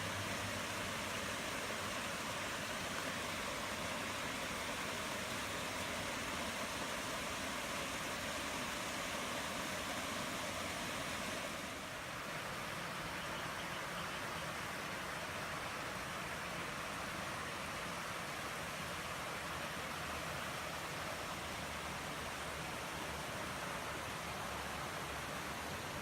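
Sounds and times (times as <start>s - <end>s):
steady rain falling: 0.0s - 13.2s, 14.5s - 26.0s.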